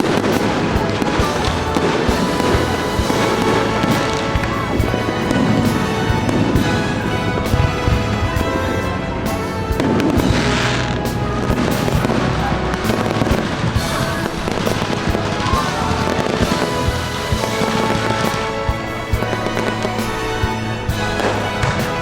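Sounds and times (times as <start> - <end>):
fireworks bangs and pops: 0.0 - 22.0
fireworks crackling: 0.0 - 22.0
loud music: 0.0 - 22.0.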